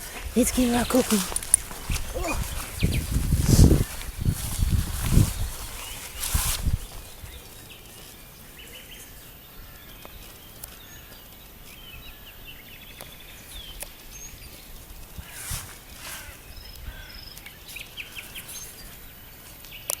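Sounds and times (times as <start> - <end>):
outdoor hush: 0.0 - 19.8
small songbirds chirping: 0.0 - 20.0.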